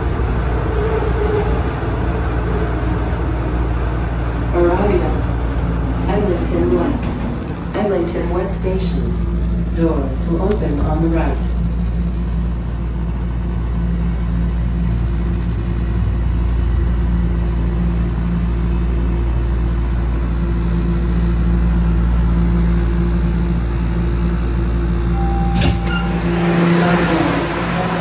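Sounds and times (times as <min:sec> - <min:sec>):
subway train rumbling: 0:00.0 - 0:28.0.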